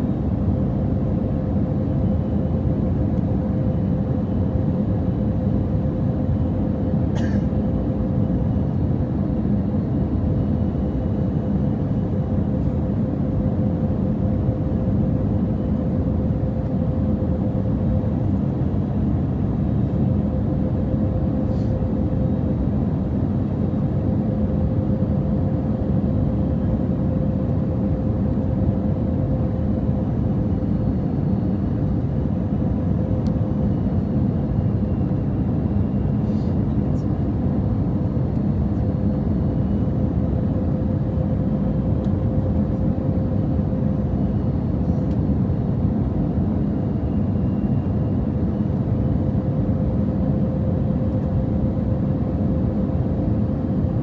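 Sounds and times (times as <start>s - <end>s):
aircraft engines idling rumble: 0.0s - 54.0s
constant hum: 0.0s - 54.0s.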